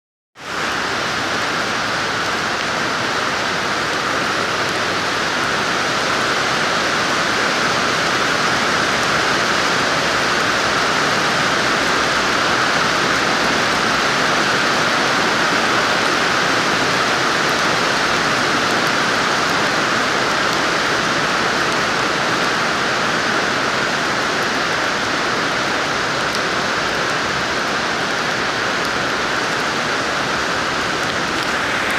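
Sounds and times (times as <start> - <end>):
steady rain falling: 0.4 - 31.9.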